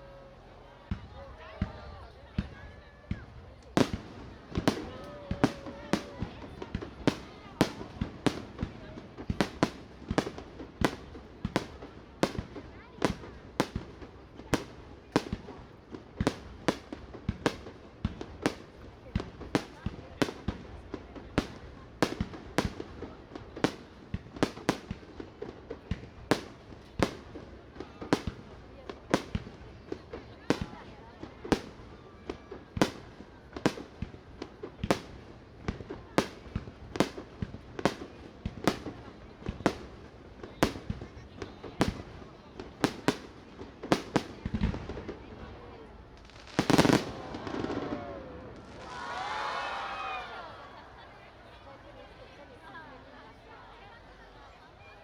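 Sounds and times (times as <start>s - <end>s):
fireworks bursting with sharp bangs: 0.2s - 51.1s.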